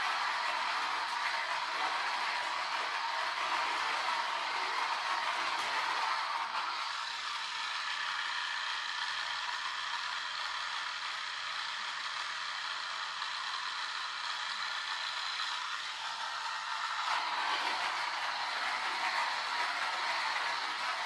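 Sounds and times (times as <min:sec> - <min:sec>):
toy car motor whirring: 0:00.0 - 0:21.0.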